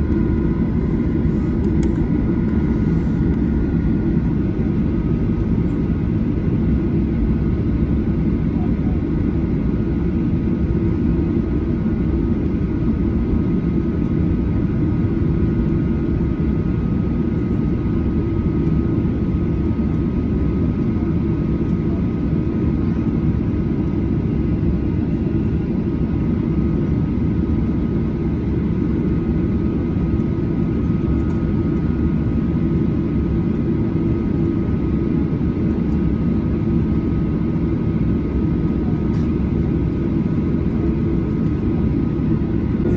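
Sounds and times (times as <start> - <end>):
jet engine roar: 0.0 - 42.9
jet engine whine: 0.0 - 42.9.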